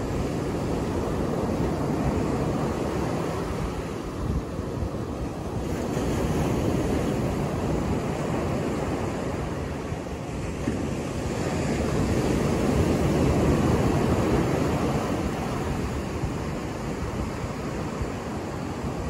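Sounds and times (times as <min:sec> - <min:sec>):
surf breaking on beach: 0:00.0 - 0:19.0.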